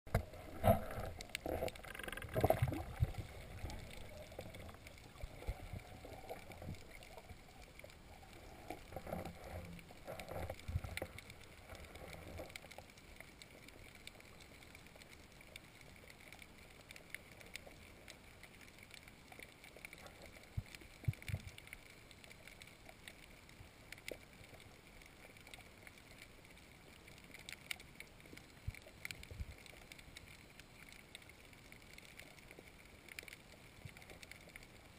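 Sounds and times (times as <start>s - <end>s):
faint clicks: 0.1s - 34.9s
muffled underwater water movement: 0.1s - 34.9s.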